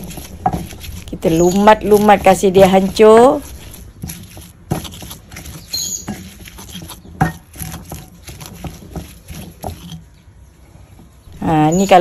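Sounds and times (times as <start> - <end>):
pestle pounding in mortar: 0.0 - 10.0
gritty grinding scrapes: 0.0 - 10.1.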